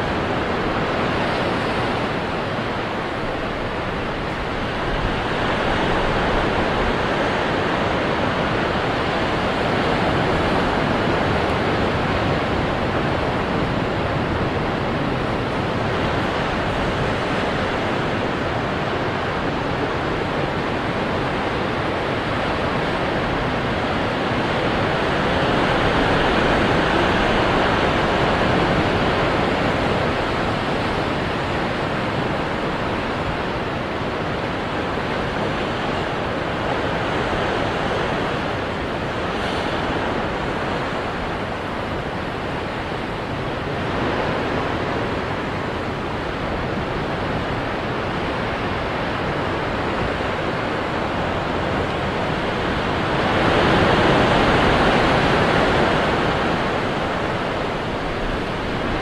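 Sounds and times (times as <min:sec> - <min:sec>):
waves washing onto rocks: 0:00.0 - 0:59.0.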